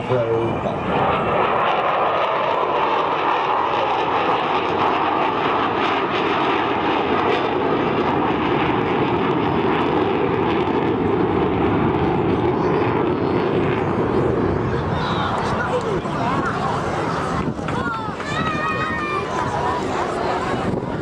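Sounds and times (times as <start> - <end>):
jet bomber flying: 0.0 - 21.0.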